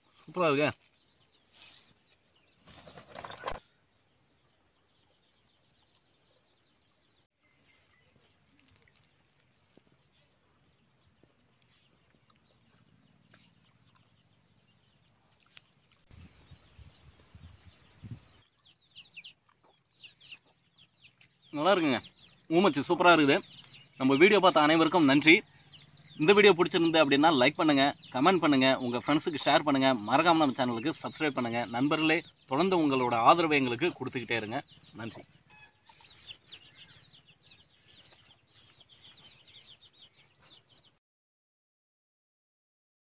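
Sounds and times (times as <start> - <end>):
bird calls: 0.0 - 41.0.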